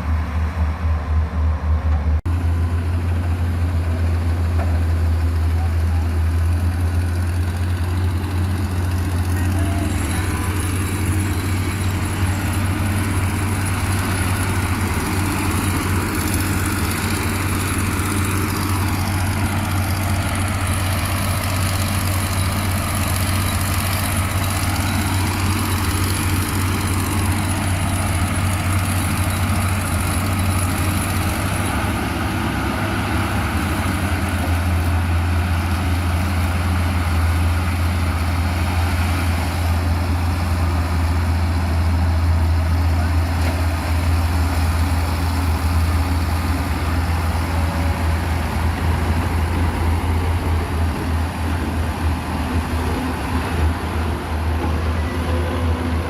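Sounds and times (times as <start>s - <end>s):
heavy machinery engine humming: 0.0s - 56.0s.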